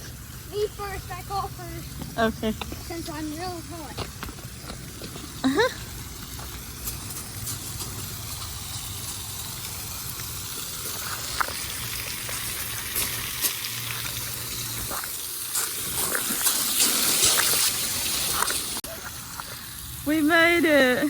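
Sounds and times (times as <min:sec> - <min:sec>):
rushing water gushing: 0:00.0 - 0:21.0.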